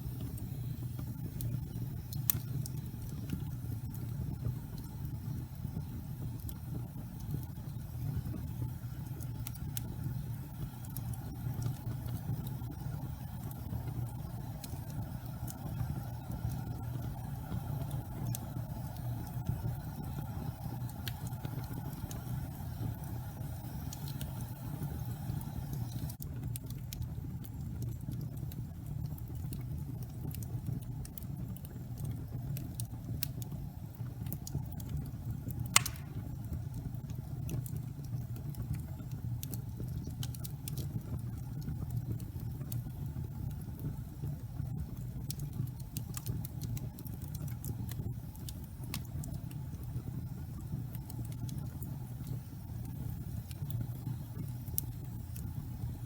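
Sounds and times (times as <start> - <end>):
fire crackling: 0.0 - 56.0
rumble of flames: 0.0 - 56.0
sharp popping of fire: 0.0 - 56.0.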